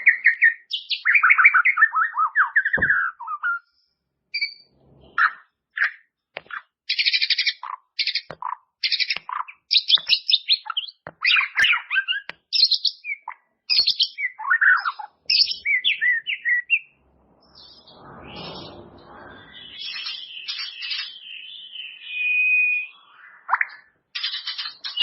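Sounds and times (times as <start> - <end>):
bird singing trills and whistles: 0.0 - 16.9, 17.5 - 25.0.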